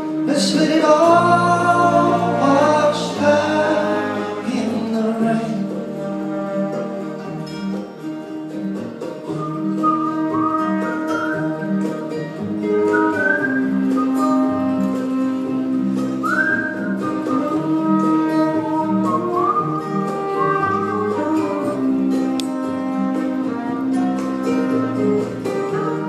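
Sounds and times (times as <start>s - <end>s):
live band instrumental: 0.0s - 26.0s
sliding high melody: 0.7s - 8.3s, 9.2s - 26.0s.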